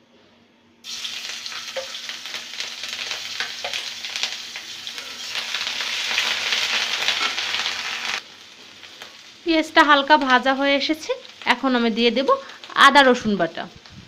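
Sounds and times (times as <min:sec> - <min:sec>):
paste sizzling in hot oil: 0:00.8 - 0:12.8.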